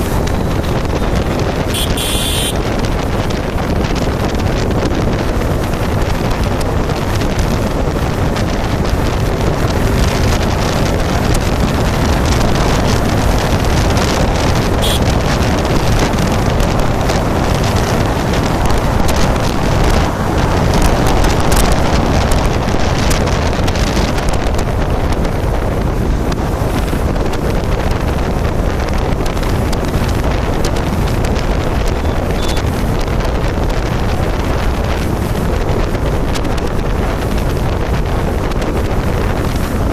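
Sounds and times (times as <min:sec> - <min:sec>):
motorcycle running: 0:00.0 - 0:39.9
road noise: 0:00.0 - 0:39.9
wind buffeting microphone: 0:00.0 - 0:39.9.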